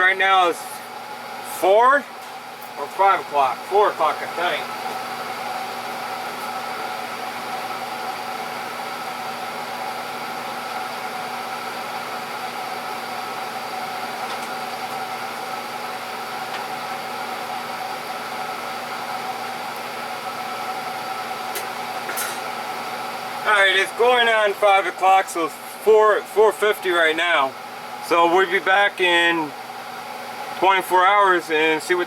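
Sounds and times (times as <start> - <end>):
machine hum with hiss: 0.0 - 32.0.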